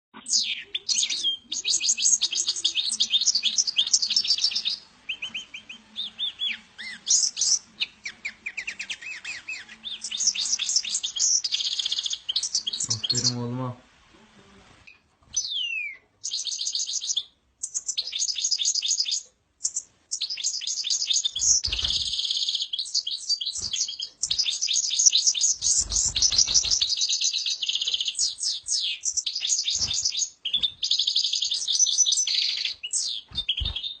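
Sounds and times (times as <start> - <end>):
songbird twittering song: 0.2 - 13.7, 14.9 - 34.0.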